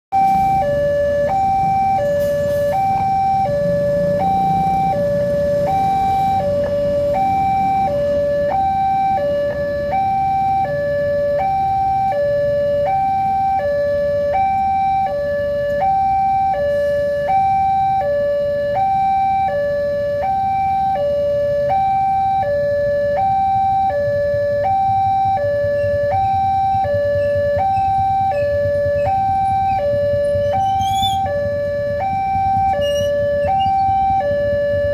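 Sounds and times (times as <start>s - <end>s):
level crossing two-tone alarm: 0.1s - 34.9s.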